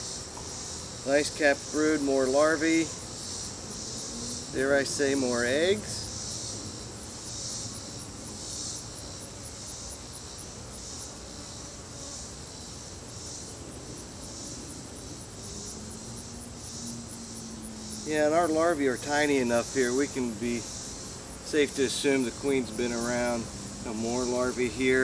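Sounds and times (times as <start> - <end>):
honey bees humming: 0.0 - 25.0
insect chorus trilling: 0.0 - 25.0.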